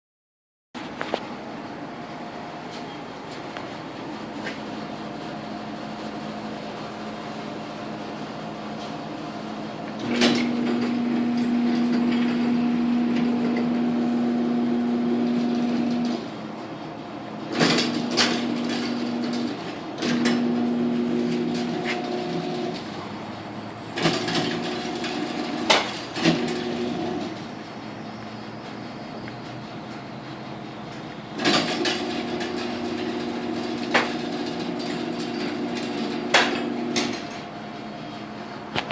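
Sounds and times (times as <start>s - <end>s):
garage door motor humming: 0.9s - 38.9s.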